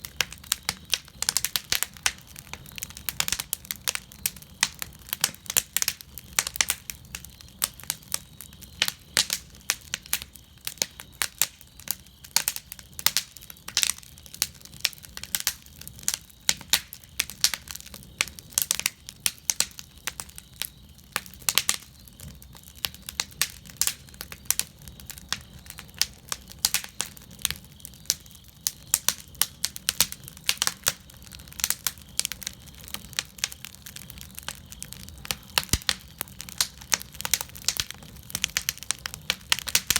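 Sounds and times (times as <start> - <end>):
fire crackling and popping: 0.0 - 39.9
low steady fire rumble: 0.0 - 39.9.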